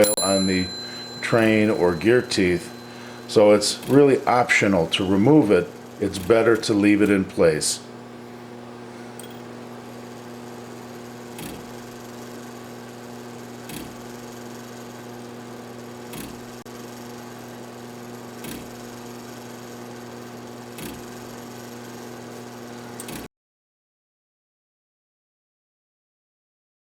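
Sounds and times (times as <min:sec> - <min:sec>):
machine hum: 0:00.0 - 0:23.3.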